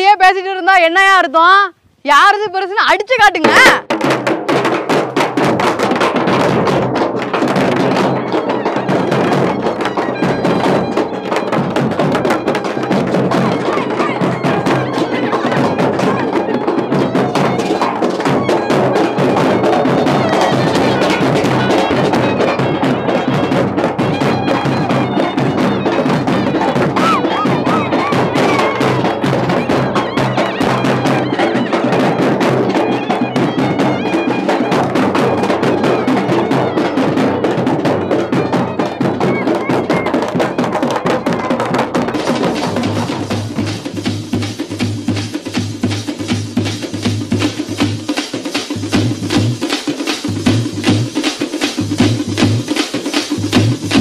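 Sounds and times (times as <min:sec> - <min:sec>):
frame drums beaten fast: 0:02.1 - 0:54.0.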